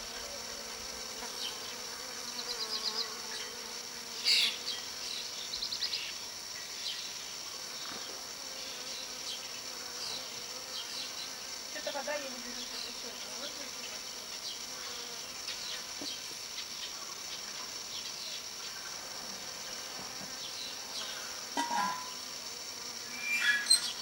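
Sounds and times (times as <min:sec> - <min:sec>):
chorus of chirping insects: 0:00.0 - 0:24.0
insects buzzing: 0:00.0 - 0:24.0.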